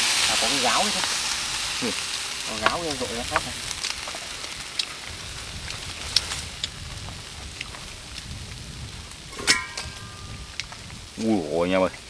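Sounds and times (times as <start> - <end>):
sharp crackles and pops: 0.0 - 12.0
steady hiss: 0.0 - 12.0.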